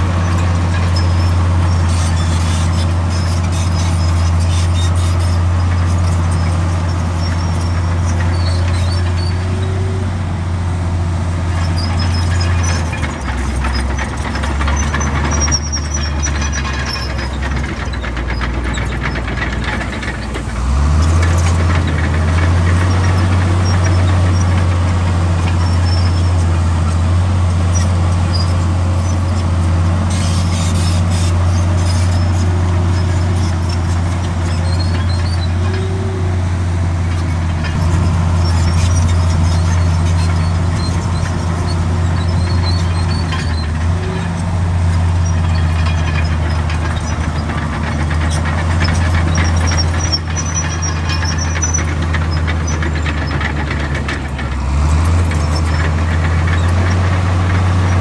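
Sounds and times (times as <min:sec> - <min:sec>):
diesel engine drone: 0:00.0 - 0:58.0
faint high squeaks: 0:00.1 - 0:10.0, 0:20.9 - 0:58.0.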